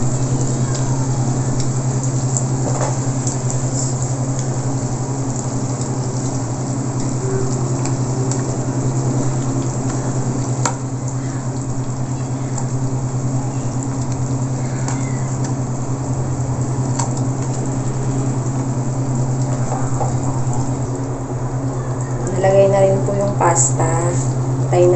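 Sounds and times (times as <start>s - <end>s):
low machine hum: 0.0s - 24.9s.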